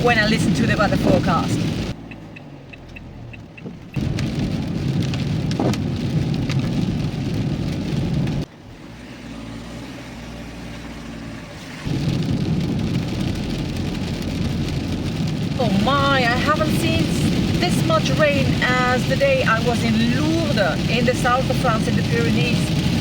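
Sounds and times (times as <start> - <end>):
rain hissing: 0.0 - 2.1, 3.2 - 23.0
low engine hum: 0.0 - 23.0
tyres on wet road: 0.0 - 23.0.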